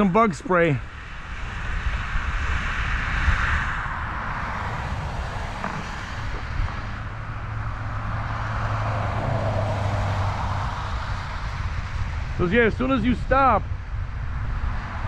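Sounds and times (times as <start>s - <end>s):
wind rumble on microphone: 0.0s - 15.0s
vehicle passing on highway: 0.8s - 15.0s.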